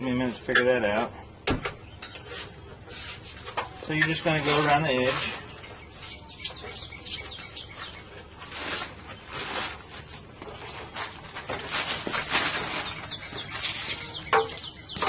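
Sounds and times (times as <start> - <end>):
small birds chirping: 0.0 - 15.0
rustling and handling noise: 2.0 - 15.0.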